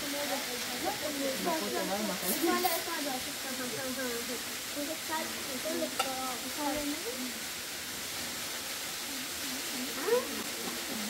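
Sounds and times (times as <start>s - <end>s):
people talking quietly: 0.0s - 11.0s
steady hiss: 0.0s - 11.0s.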